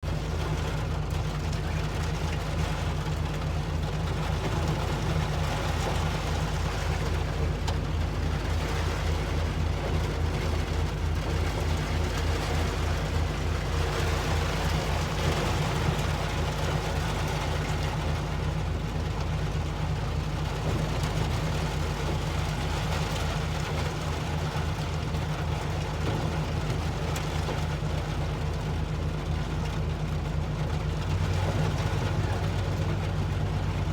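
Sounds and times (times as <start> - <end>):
heavy diesel engine rumbling: 0.0 - 33.9.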